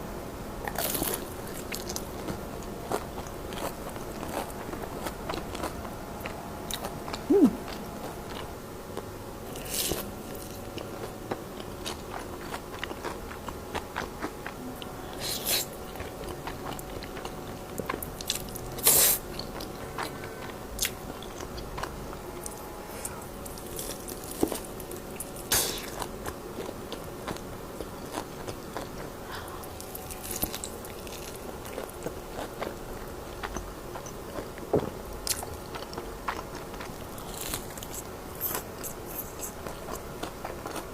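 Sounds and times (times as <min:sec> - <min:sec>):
person chewing crunchy food: 0:00.6 - 0:40.9.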